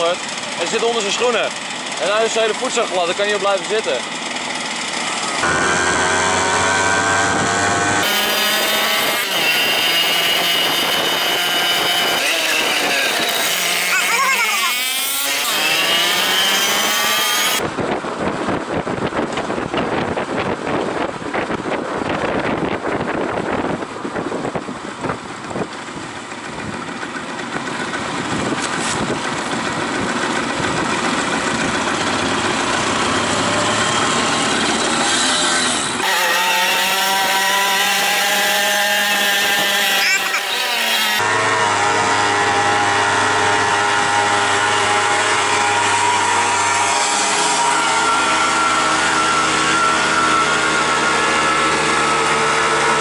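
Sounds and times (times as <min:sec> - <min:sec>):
moped engines revving: 0:00.0 - 0:18.5, 0:25.4 - 0:53.0.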